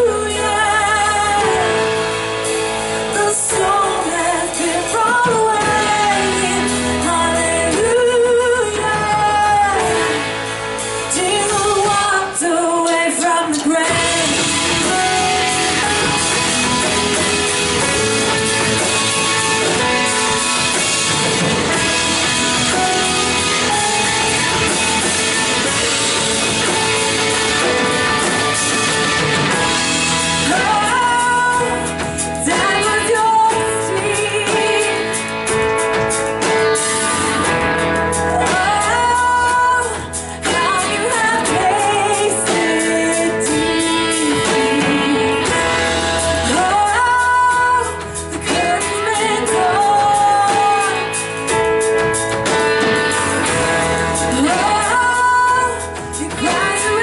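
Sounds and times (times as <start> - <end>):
guitar: 0.0 - 57.0.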